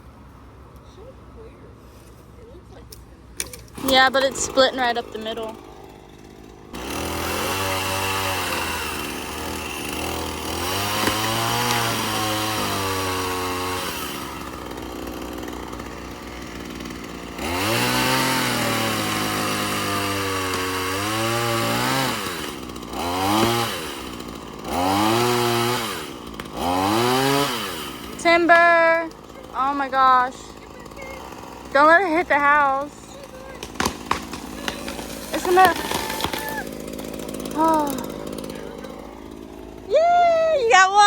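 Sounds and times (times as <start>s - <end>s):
chainsaw cutting tree trunk: 3.4s - 41.0s.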